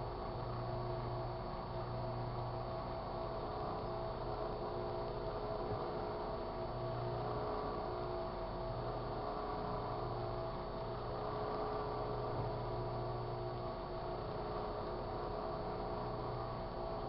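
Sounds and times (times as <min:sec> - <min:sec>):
microwave oven running: 0:00.0 - 0:17.0.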